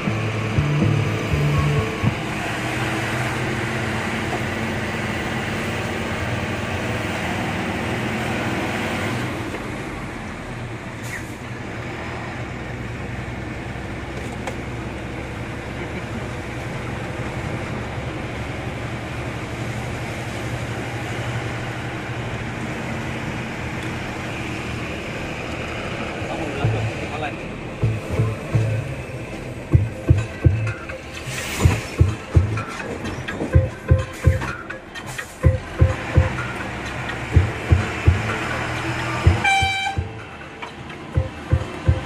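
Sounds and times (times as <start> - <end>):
bus engine running: 0.0 - 42.0
road noise: 0.0 - 42.0.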